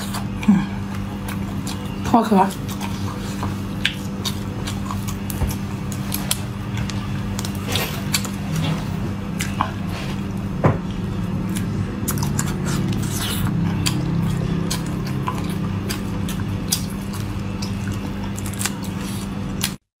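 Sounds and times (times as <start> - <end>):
low hum: 0.0 - 19.8
wet squelching of chewing: 0.0 - 19.8.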